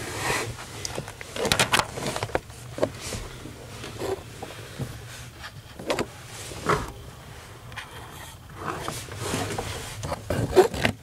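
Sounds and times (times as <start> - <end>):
hands moving wiring bundles: 0.0 - 7.0, 7.6 - 11.0.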